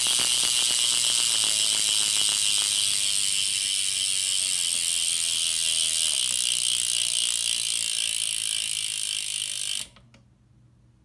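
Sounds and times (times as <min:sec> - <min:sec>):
bicycle hub ratchet buzzing: 0:00.0 - 0:10.0.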